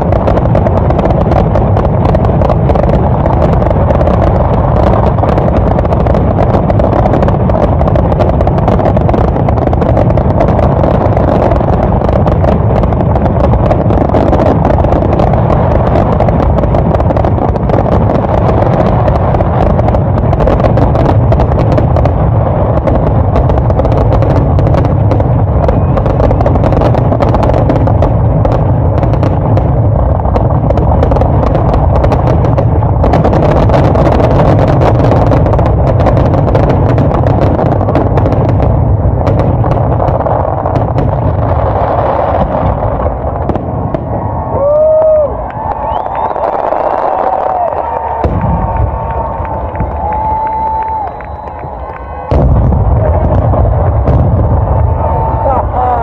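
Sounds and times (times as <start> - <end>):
fireworks booming and crackling: 0.0 - 56.0.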